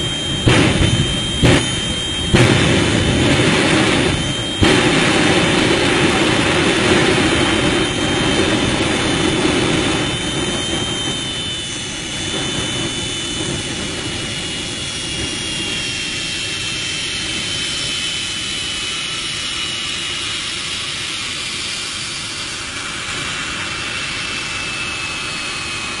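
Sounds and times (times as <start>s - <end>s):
jet turbine engine whine: 0.0s - 26.0s.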